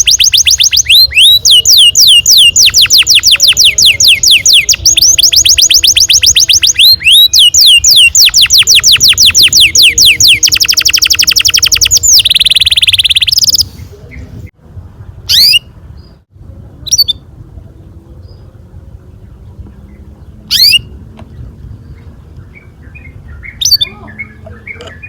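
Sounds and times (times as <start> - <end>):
canary chirps: 0.0 - 14.4, 15.2 - 16.2, 16.8 - 17.3, 19.2 - 21.0, 21.8 - 25.0
canary singing trills: 0.0 - 16.2, 16.8 - 17.3, 18.1 - 25.0.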